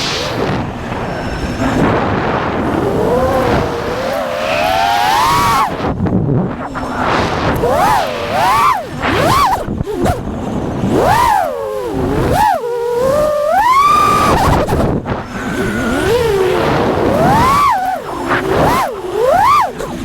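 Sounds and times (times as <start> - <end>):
quadcopter propellers whining: 0.0 - 20.0.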